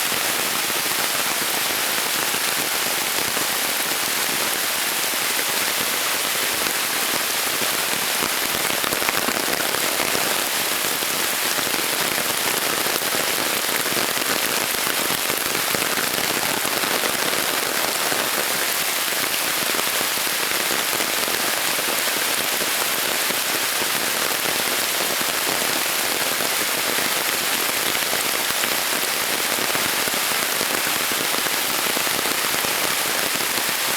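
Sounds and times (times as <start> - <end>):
heavy rain on vegetation: 0.0 - 33.9.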